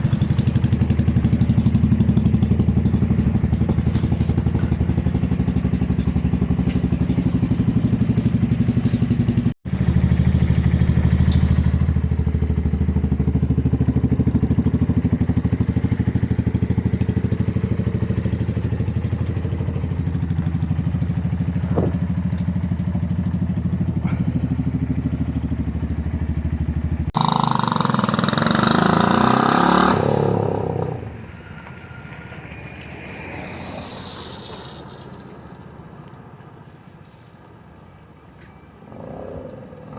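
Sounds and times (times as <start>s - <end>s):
motorcycle engine idling: 0.0s - 32.1s.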